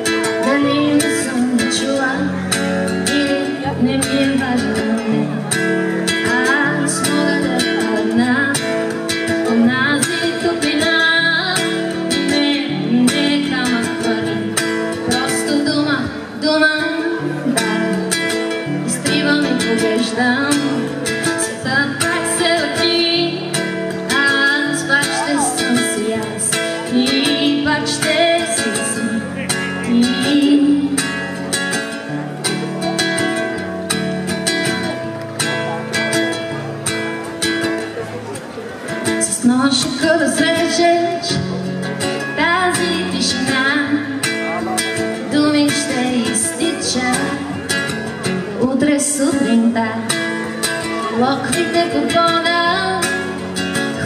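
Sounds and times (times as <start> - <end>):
woman singing: 0.0 - 5.4, 6.1 - 29.2, 29.8 - 31.2, 39.2 - 41.6, 42.2 - 44.3, 45.2 - 54.0
acoustic guitar strumming: 0.0 - 54.0.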